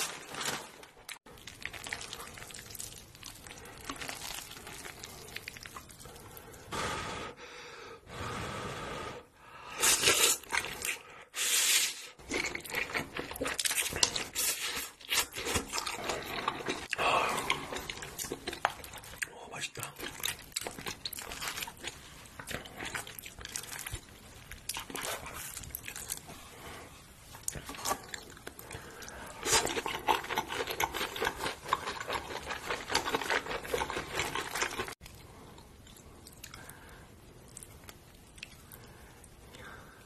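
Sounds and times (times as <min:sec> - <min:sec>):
chewing and crunching crispy food: 0:00.0 - 0:06.7, 0:09.8 - 0:11.1, 0:12.0 - 0:39.9
soft chewing: 0:01.0 - 0:06.7, 0:12.2 - 0:40.0.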